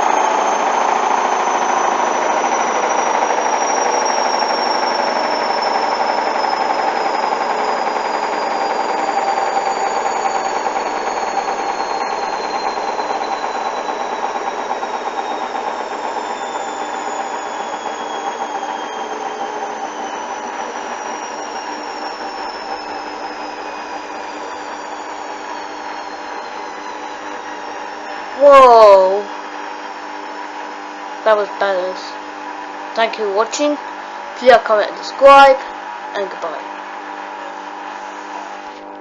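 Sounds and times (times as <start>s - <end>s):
washing machine spin slowing down: 0.0s - 39.0s.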